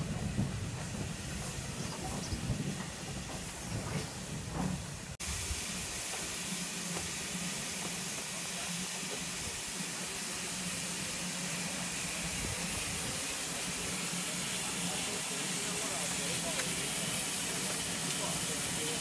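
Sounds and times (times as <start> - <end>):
steam hissing: 0.0 - 19.0
steam locomotive passing: 0.0 - 19.0.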